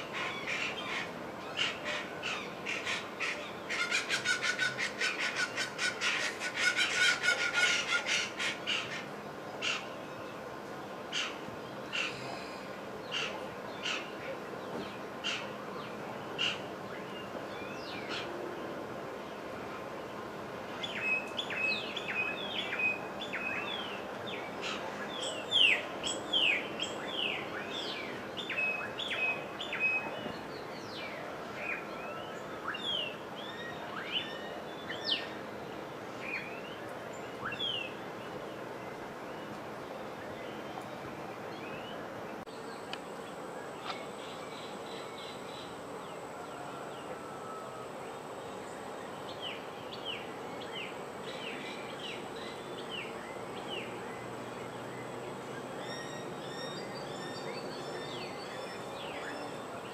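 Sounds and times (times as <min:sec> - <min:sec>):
steady background noise: 0:00.0 - 0:59.9.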